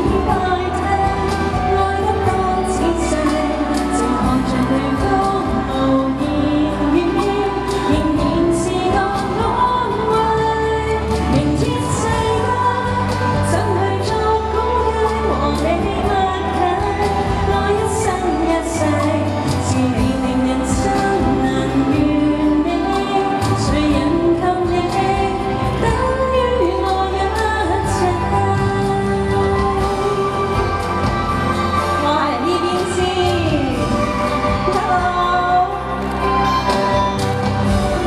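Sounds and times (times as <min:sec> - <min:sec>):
pop backing track: 0:00.0 - 0:38.0
woman singing into microphone: 0:00.0 - 0:38.0.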